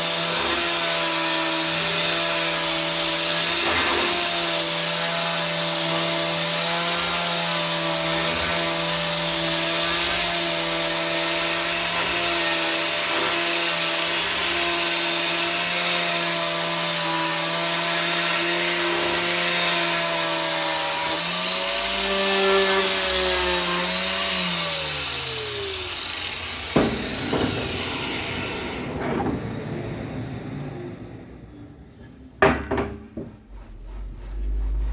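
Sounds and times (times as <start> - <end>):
electric sander on wood: 0.0 - 29.0.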